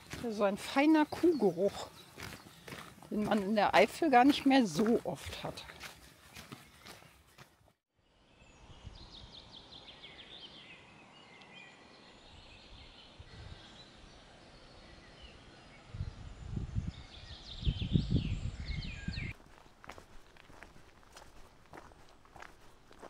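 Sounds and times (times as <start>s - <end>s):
outdoor ambience: 0.0s - 17.6s, 19.3s - 23.0s
small birds chirping and trilling: 0.0s - 19.4s.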